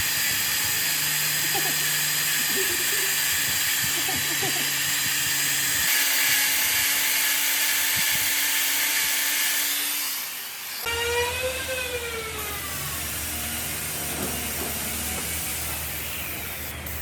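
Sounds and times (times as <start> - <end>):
power tool running with hiss: 0.0 - 17.0.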